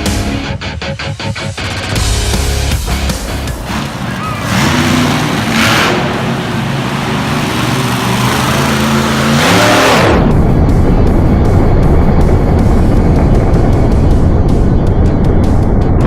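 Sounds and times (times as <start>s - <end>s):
truck engine revving: 1.8s - 14.7s.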